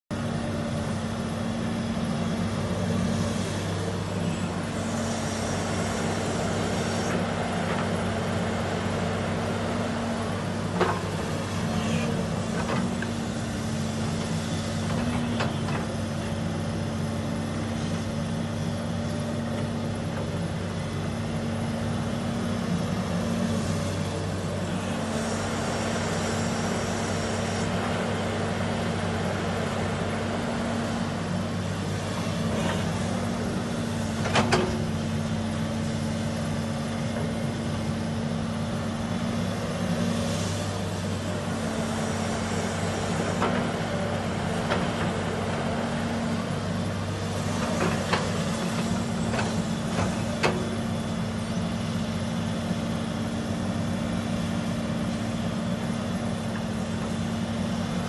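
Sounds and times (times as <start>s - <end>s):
excavator diesel engine: 0.1s - 58.0s.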